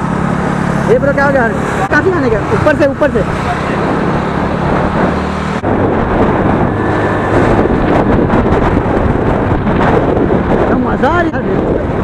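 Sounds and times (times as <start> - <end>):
motorcycle engine hum: 0.0 - 12.0
road noise: 0.0 - 12.0
wind rushing over microphone: 0.0 - 12.0.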